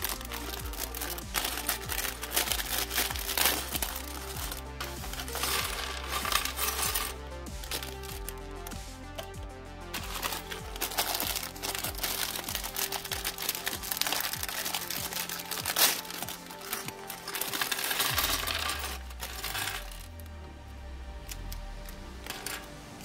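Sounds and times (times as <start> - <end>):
plastic bag crinkling: 0.0 - 20.3
plastic bricks clicking: 0.0 - 20.3, 21.2 - 23.0
synthwave music: 0.0 - 23.0.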